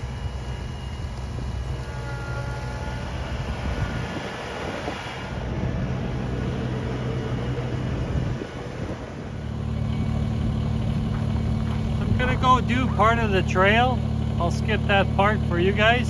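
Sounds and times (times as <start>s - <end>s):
high-pitched whine: 0.0s - 13.8s
tractor diesel engine running: 0.0s - 16.0s.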